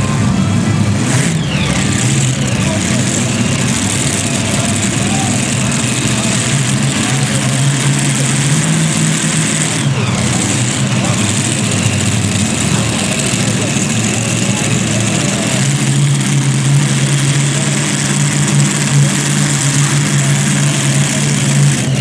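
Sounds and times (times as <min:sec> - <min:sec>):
tractor engines idling: 0:00.0 - 0:22.0.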